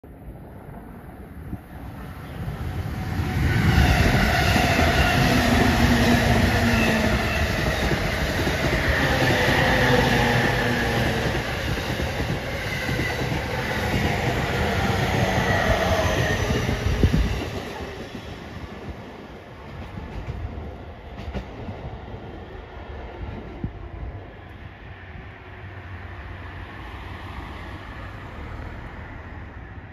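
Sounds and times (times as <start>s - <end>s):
train wheels rumbling on rail: 1.4s - 29.8s.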